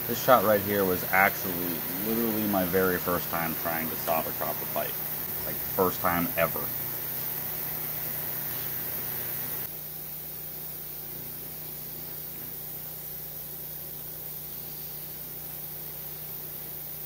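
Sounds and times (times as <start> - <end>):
low electrical hum: 0.0 - 17.0
steady hiss: 0.0 - 17.0.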